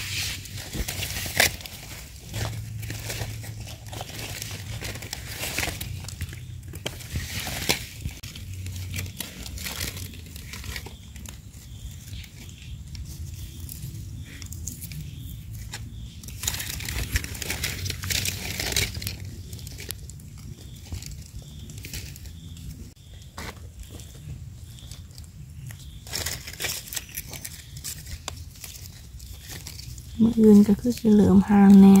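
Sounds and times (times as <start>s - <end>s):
dry leaves rustling and crackling: 0.0s - 32.0s.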